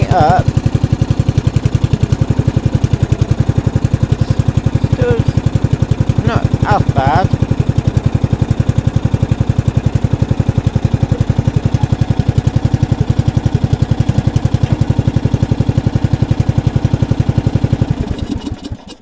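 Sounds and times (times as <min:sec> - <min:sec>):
mower petrol engine chugging: 0:00.0 - 0:19.0.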